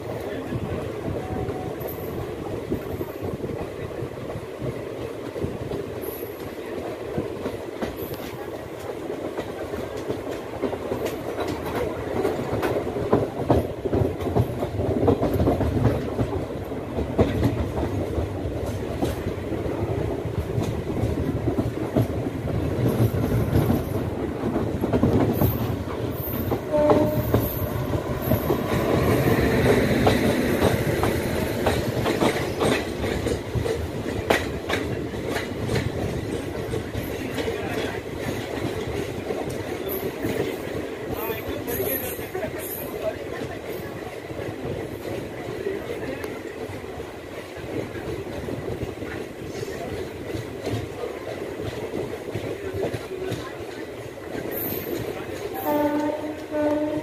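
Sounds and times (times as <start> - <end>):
train wheels clattering over rail joints: 0.0 - 57.0.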